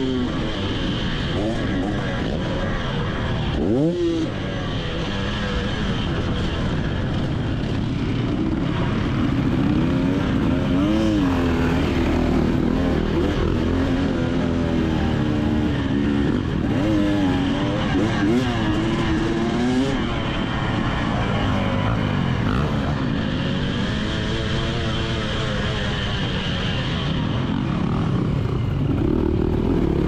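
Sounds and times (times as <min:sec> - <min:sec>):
two-stroke motocross bike engine: 0:00.0 - 0:30.0.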